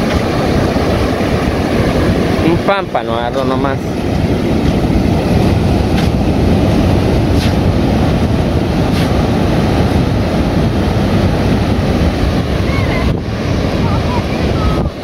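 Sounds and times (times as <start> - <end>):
surf breaking on a beach: 0.0 - 15.0
wind buffeting microphone: 0.0 - 15.0.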